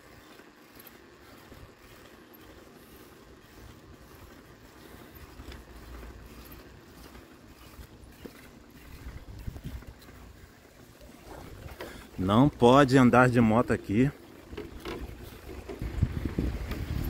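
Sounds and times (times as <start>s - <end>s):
bicycle rolling: 0.0s - 17.0s.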